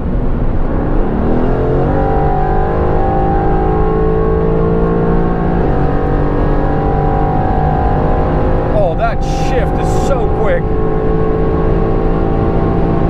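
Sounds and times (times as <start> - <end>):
car engine revving at full throttle: 0.0 - 13.0.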